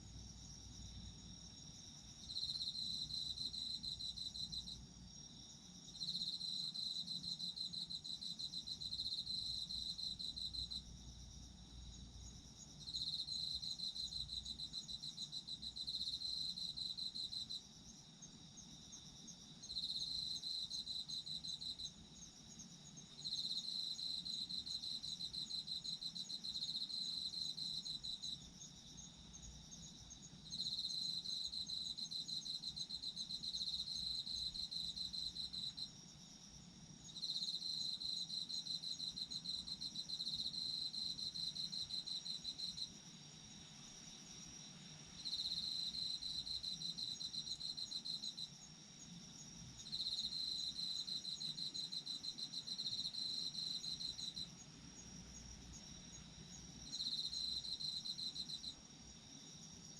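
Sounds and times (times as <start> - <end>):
chorus of high-pitched insects: 0.0 - 59.9.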